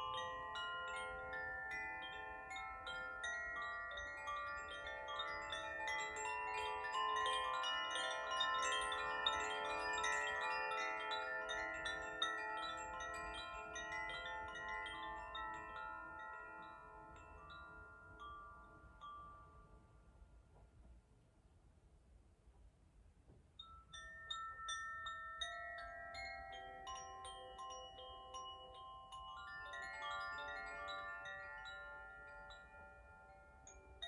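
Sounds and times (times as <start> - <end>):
wind chimes tinkling: 0.0 - 20.9, 23.5 - 34.0.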